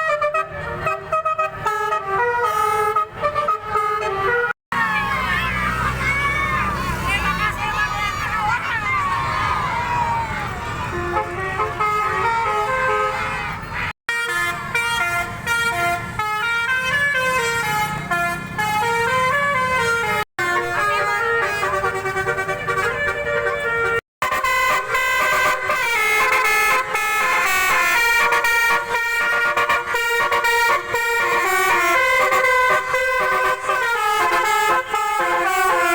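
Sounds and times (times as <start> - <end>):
multi-tone musical horns: 0.0 - 5.4, 10.8 - 35.9.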